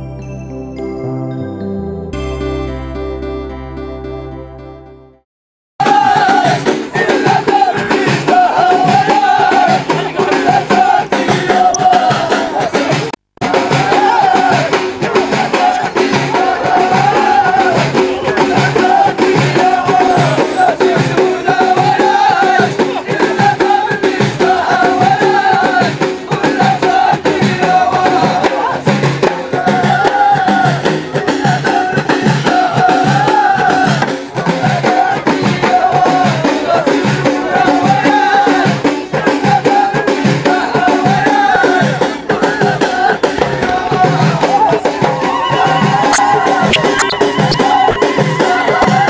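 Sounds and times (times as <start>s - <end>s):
men chanting together: 5.8s - 46.7s, 47.6s - 49.0s
frame drums beating: 5.8s - 49.0s.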